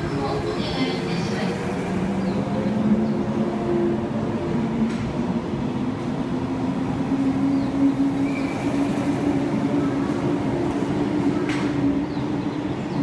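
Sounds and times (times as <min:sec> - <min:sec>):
train wheels rolling on rails: 0:00.0 - 0:13.0.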